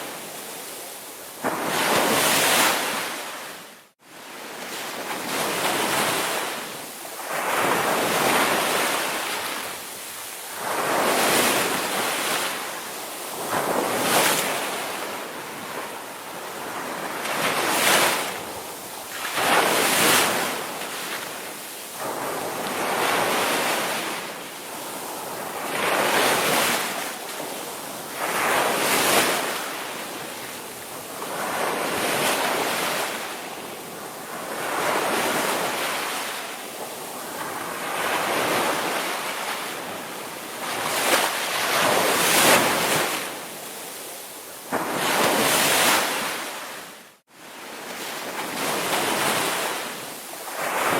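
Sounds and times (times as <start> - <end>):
ocean waves breaking: 0.0 - 44.0, 44.7 - 50.9.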